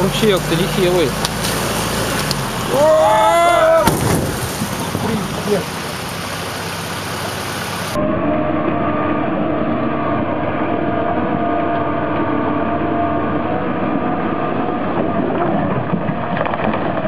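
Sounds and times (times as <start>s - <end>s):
excavator diesel engine droning: 0.0s - 16.6s.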